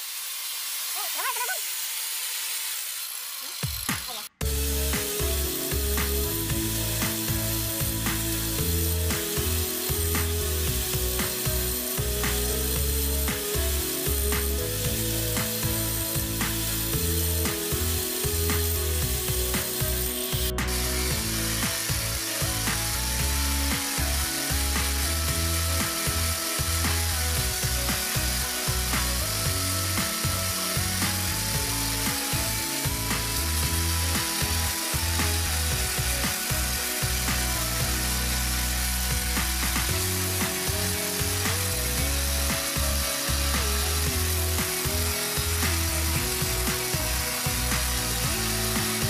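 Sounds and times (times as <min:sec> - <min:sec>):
angle grinder grinding metal: 0:00.0 - 0:49.0
background music with steady beat: 0:03.6 - 0:49.0.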